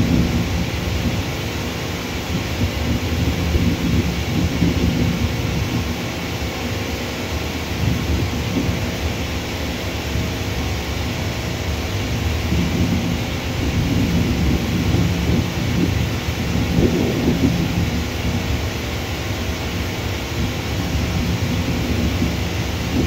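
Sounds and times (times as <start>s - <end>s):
distant jet engines rumbling: 0.0s - 23.0s.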